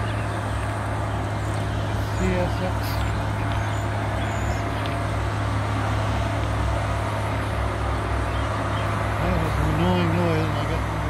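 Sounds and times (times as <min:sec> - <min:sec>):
railroad equipment humming: 0:00.0 - 0:11.0.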